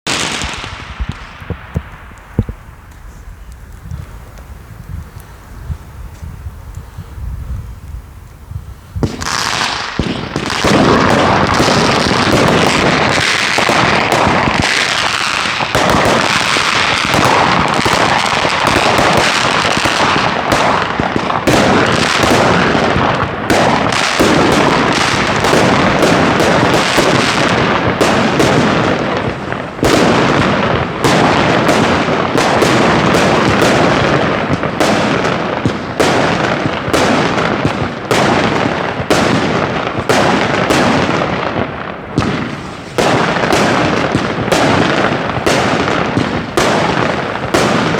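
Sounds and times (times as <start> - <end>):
fireworks banging and crackling: 0.0 - 47.9.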